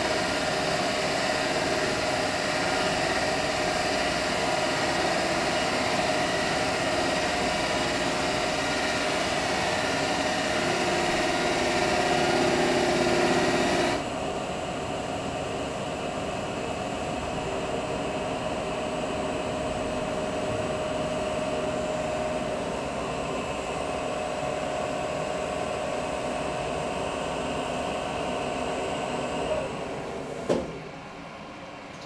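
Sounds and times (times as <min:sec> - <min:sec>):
lathe humming and whining: 0:00.0 - 0:31.6.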